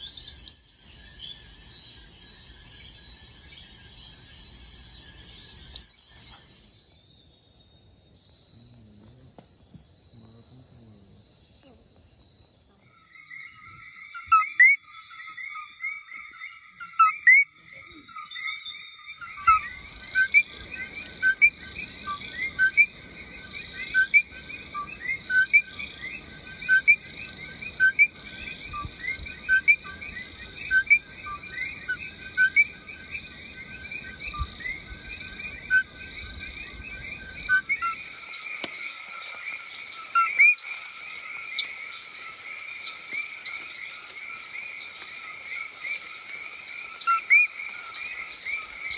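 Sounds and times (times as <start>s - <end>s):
frogs chirping: 0.0s - 48.9s.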